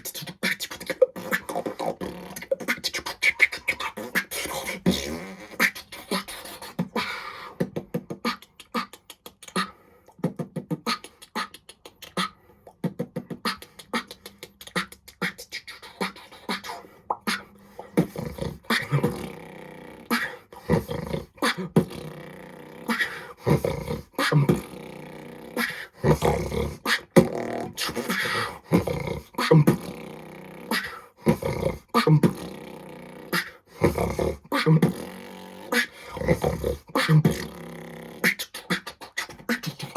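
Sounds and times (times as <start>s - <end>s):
beatboxing: 0.0s - 39.9s.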